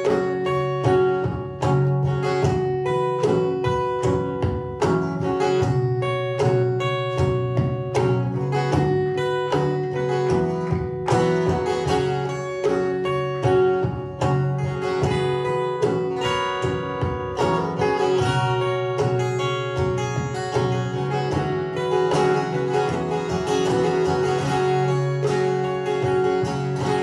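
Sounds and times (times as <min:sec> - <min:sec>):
acoustic guitar plucking: 0:00.0 - 0:27.0.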